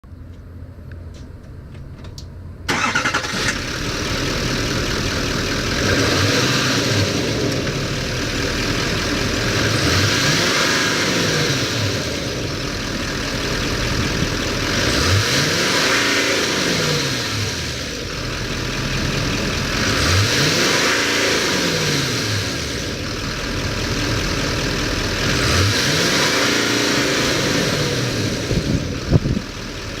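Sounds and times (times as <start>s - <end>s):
truck engine starting: 2.0s - 30.0s
truck engine revving: 2.7s - 30.0s.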